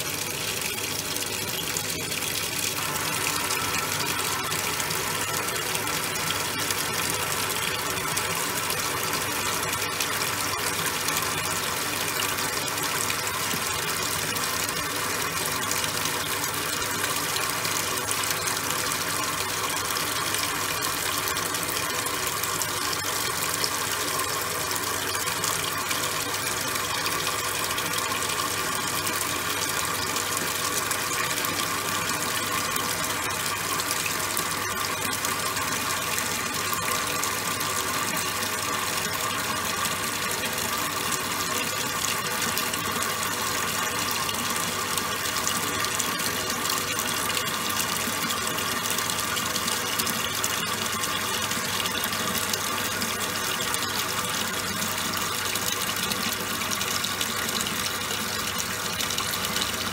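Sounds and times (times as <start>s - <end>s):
water gushing into washing machine: 0.0s - 59.9s.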